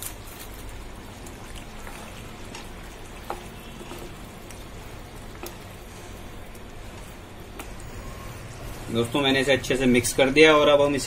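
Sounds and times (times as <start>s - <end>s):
curry sizzling: 0.0s - 11.0s.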